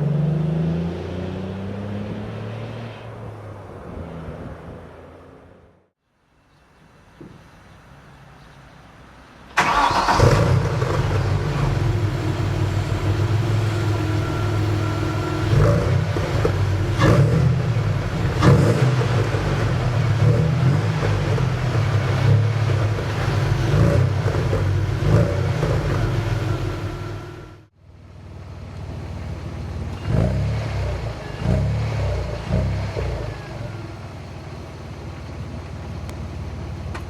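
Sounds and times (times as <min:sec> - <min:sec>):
car engine starting and running: 0:00.0 - 0:06.0, 0:09.2 - 0:37.0.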